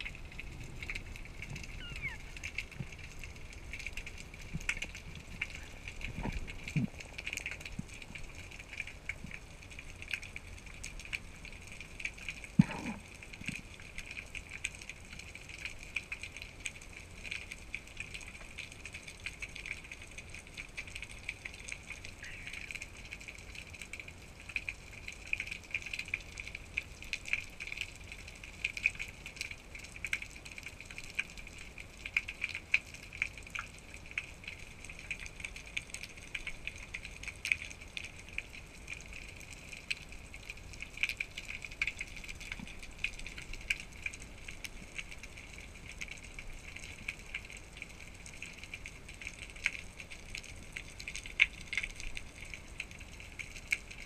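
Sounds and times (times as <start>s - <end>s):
underwater hiss and crackle: 0.0s - 54.0s.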